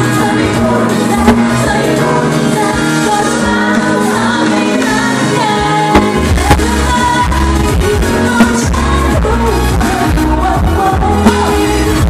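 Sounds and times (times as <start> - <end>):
band with drums: 0.0 - 12.0
women singing pop music: 0.0 - 12.0.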